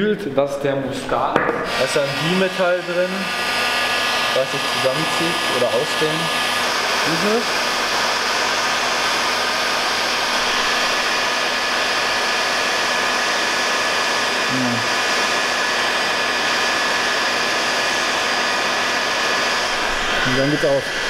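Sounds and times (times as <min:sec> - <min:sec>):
heat gun blowing air: 0:01.4 - 0:21.0.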